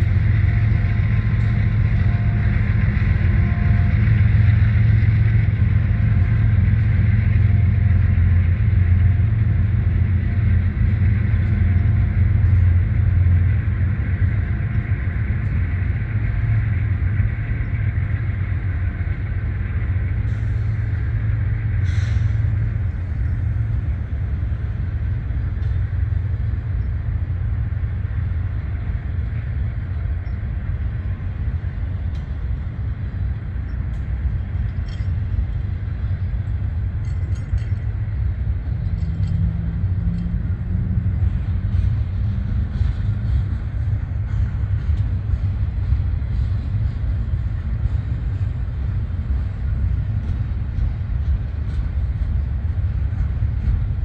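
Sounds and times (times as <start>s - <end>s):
diesel locomotive engine idling: 0.0s - 54.0s
train rumbling past: 0.0s - 54.0s.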